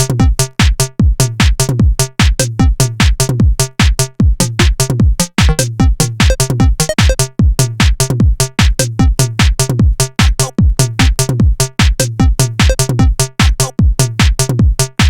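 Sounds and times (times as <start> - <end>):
fast drum machine beat: 0.0 - 15.0.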